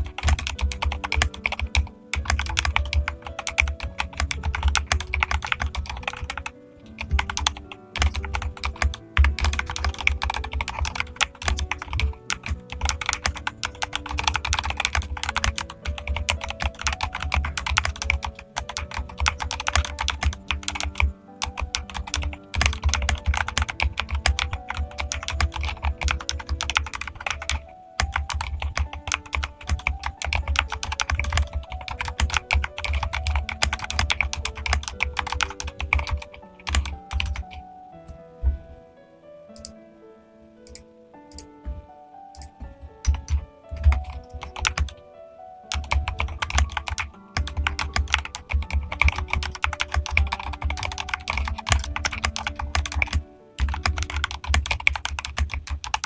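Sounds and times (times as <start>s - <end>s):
mechanical keyboard typing: 0.0s - 37.6s, 42.3s - 45.0s, 45.7s - 56.0s
soft background tune: 0.0s - 56.0s.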